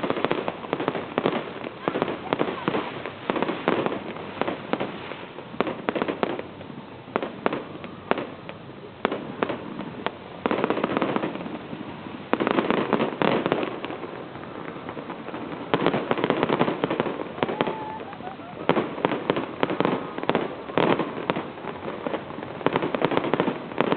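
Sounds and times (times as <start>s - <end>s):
fireworks bangs and pops: 0.0s - 23.9s
fireworks crackling: 0.0s - 23.9s.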